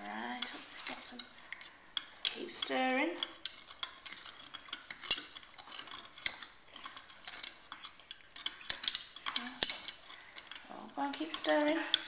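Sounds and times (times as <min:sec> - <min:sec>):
teaspoon stirring in plastic cup: 0:00.0 - 0:12.0.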